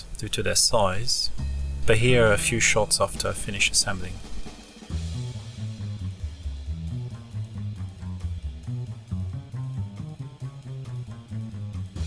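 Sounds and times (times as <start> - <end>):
upbeat music with drums: 1.4 - 12.0.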